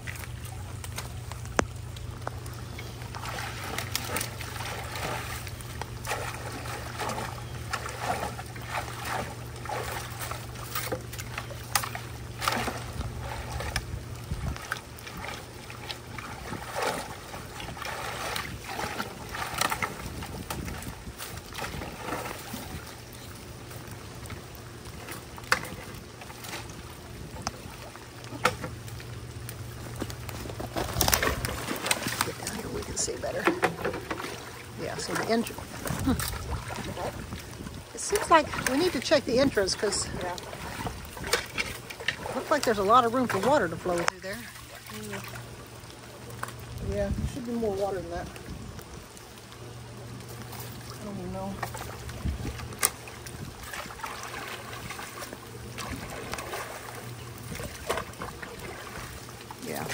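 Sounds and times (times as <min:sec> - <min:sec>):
water running from a culvert: 0:00.0 - 0:59.9.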